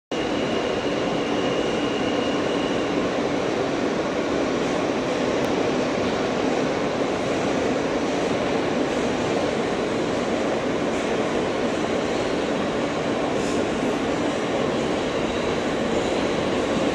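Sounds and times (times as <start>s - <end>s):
subway car rumbling on track: 0.1s - 16.9s.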